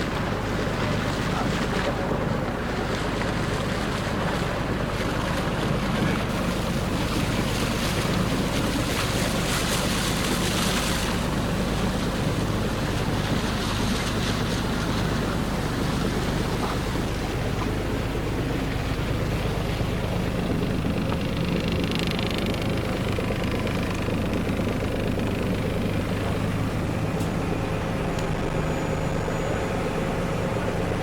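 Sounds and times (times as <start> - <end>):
boat engine running: 0.0 - 31.0
water rushing along hull: 0.0 - 31.0.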